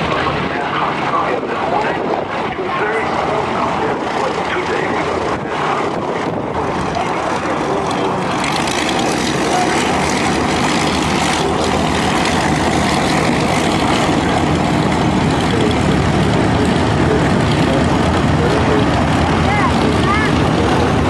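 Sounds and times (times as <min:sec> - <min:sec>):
propeller aircraft drone: 0:00.0 - 0:21.0.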